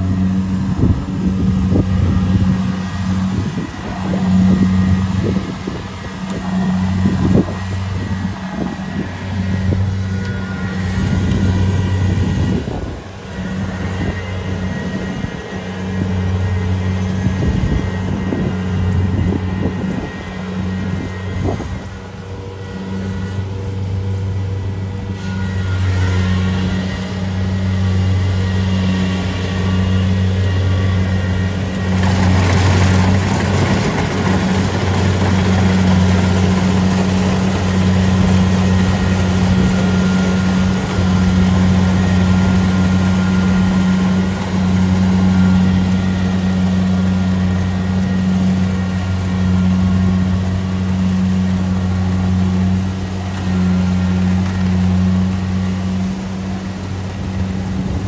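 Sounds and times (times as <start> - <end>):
deep engine hum: 0.0 - 58.0.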